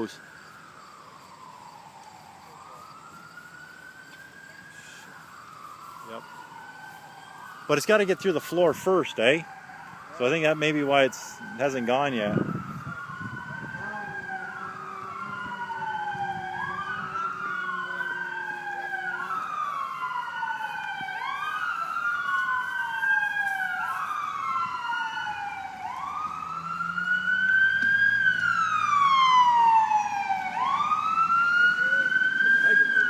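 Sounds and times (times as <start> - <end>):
emergency sirens wailing: 0.0 - 33.0.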